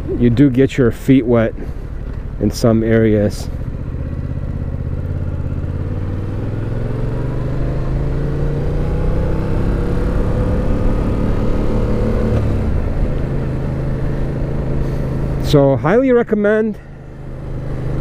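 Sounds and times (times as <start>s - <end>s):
motorcycle engine accelerating: 0.0s - 16.0s, 16.8s - 18.0s.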